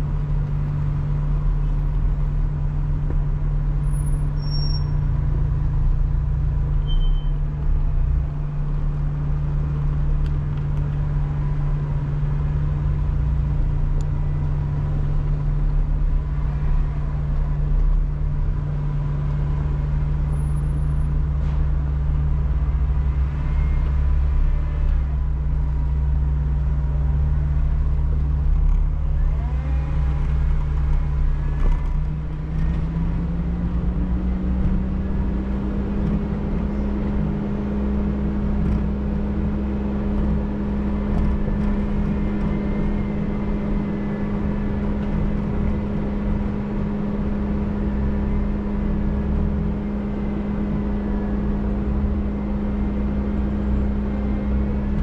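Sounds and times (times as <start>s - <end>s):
off-road vehicle engine rumble: 0.0s - 55.0s.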